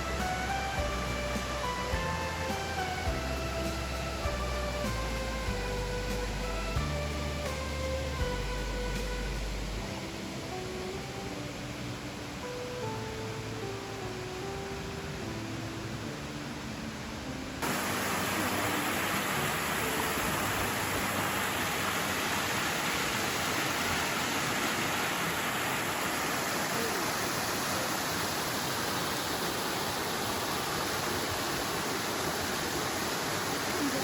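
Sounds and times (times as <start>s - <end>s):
waterfall rushing water: 0.0s - 34.0s.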